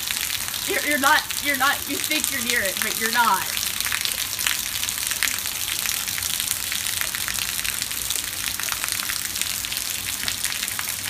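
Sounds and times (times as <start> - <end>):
rain pattering on ground: 0.0 - 11.0.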